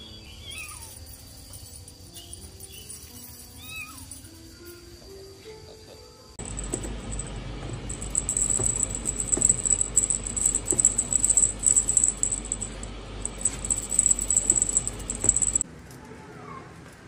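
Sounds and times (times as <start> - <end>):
toy beads rattling and jingling: 0.4 - 5.1, 6.4 - 15.6.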